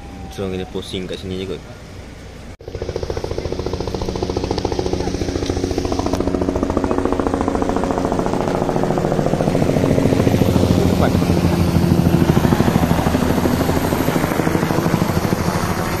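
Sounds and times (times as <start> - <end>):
helicopter flying overhead: 0.0 - 16.0.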